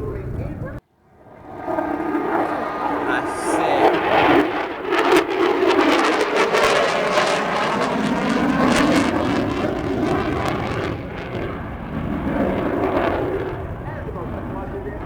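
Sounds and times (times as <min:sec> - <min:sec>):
aircraft engine flying past: 0:00.0 - 0:15.0.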